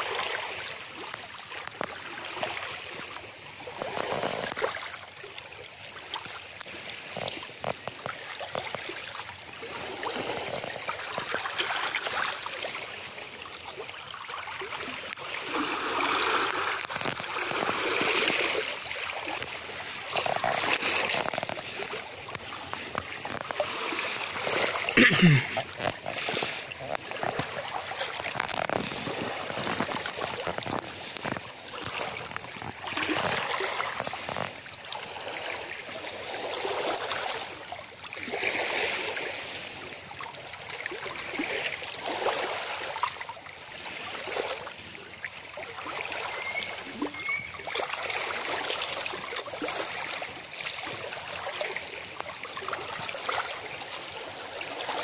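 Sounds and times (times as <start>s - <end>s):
waves lapping over pebbles: 0.0s - 55.0s.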